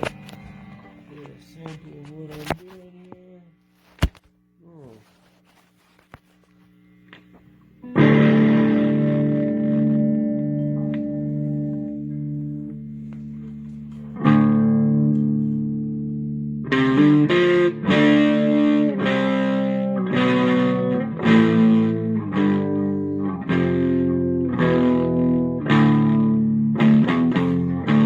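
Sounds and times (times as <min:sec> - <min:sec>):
overdriven electric guitar chords: 0:00.0 - 0:01.8, 0:07.0 - 0:28.0.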